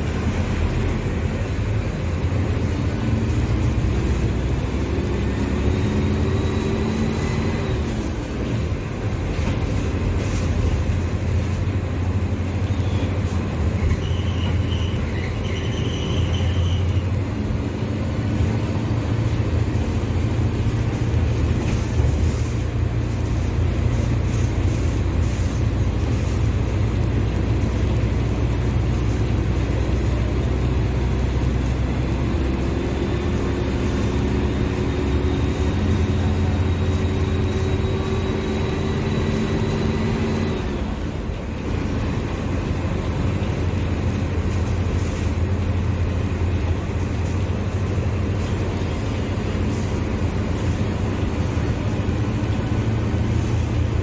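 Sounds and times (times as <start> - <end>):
diesel bus engine rumbling: 0.0 - 54.0
rising engine whine: 0.0 - 54.0.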